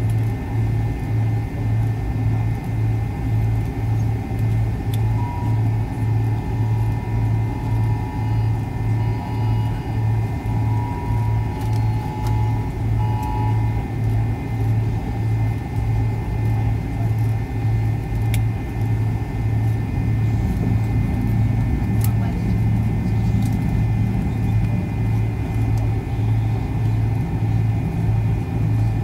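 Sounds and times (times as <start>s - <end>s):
faint steady whine: 0.0s - 29.0s
pulsing low jet engine hum: 0.0s - 29.0s.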